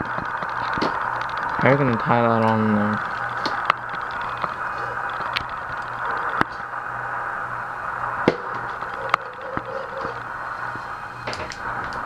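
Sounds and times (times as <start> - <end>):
steady hiss and low hum: 0.0 - 12.0.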